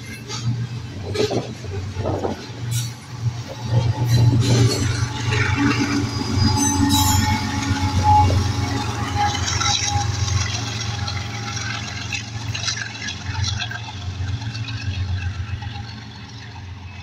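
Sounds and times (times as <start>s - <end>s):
locomotive engine hum: 0.0s - 17.0s
train wheels clacking and squealing: 0.0s - 17.0s.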